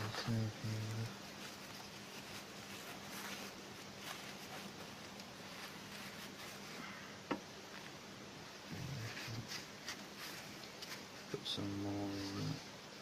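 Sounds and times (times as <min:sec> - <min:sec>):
low steady hum: 0:00.0 - 0:13.0
tissue rubbing: 0:00.0 - 0:13.0.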